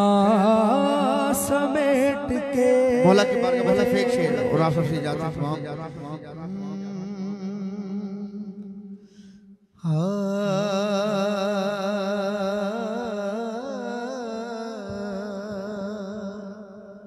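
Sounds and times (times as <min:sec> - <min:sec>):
man singing devotional song: 0:00.0 - 0:09.0, 0:09.8 - 0:17.0.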